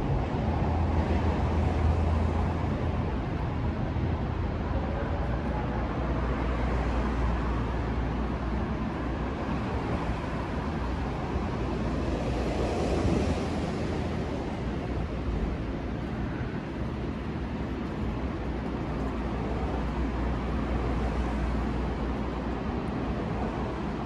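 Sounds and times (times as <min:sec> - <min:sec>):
train rumbling along track: 0:00.0 - 0:24.0.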